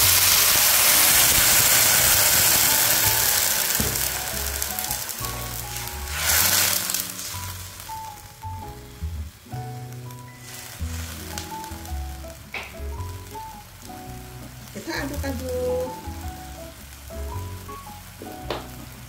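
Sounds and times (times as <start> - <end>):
background music: 0.0 - 19.0
water sizzling in hot wok: 0.0 - 19.0.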